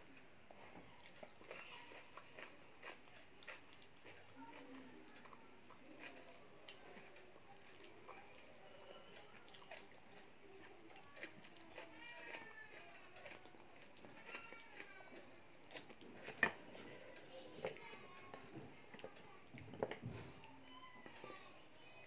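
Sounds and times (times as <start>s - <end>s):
eating by hand and chewing: 0.0s - 22.0s.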